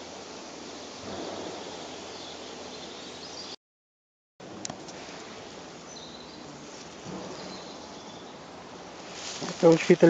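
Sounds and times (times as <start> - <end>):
steady outdoor hiss: 0.0 - 3.6, 4.4 - 10.0.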